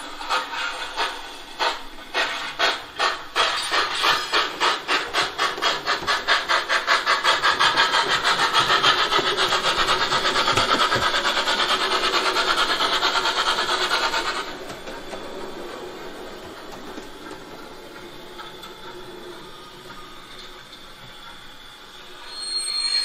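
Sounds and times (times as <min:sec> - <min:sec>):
model steam locomotive chuffs: 0:00.0 - 0:23.0.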